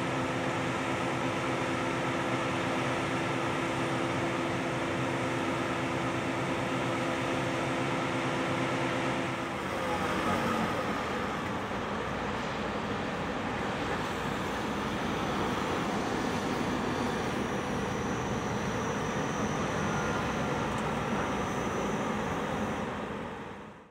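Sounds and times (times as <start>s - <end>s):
combine harvester engine drone: 0.0s - 23.9s
faint high whine: 1.6s - 23.9s.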